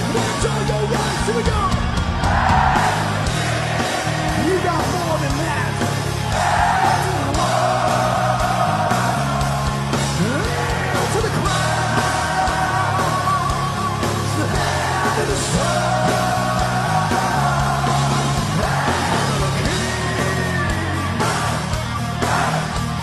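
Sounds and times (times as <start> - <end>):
bass: 0.0 - 23.0
distorted electric guitars: 0.0 - 23.0
drums: 0.0 - 23.0.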